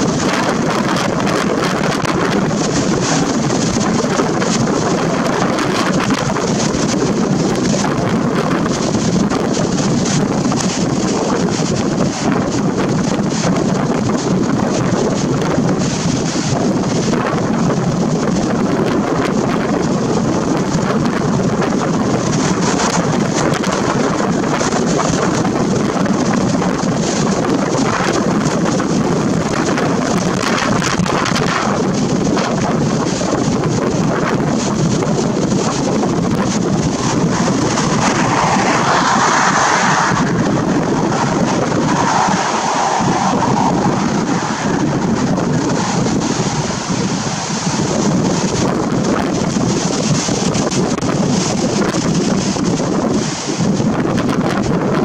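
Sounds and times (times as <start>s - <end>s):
storm wind on microphone: 0.0s - 55.0s.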